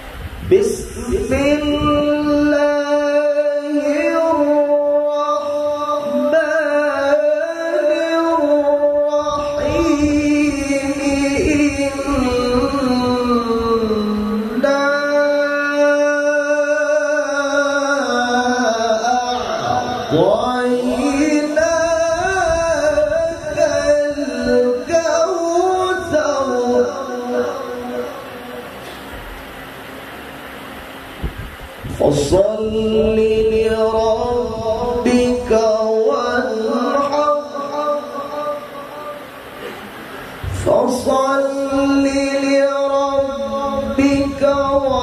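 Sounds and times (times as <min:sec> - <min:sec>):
man chanting through microphone: 0:00.0 - 0:29.2, 0:31.8 - 0:45.0
man reciting melodically: 0:00.5 - 0:28.8, 0:31.9 - 0:39.7, 0:40.4 - 0:45.0.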